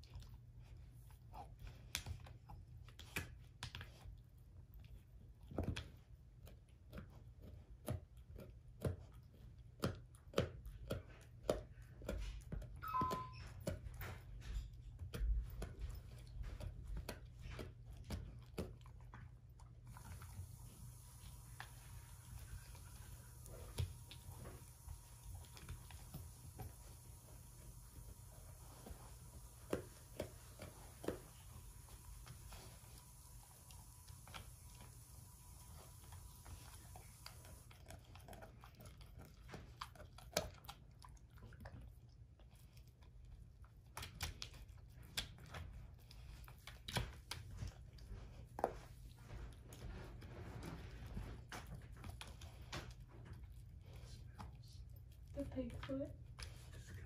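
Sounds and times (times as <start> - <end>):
dog crunching bone: 0.0 - 57.0.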